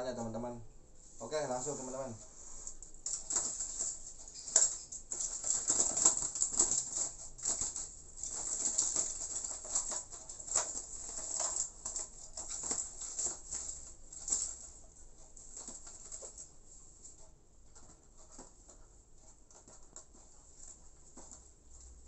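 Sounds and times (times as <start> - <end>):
rustling in cage: 1.0 - 22.0.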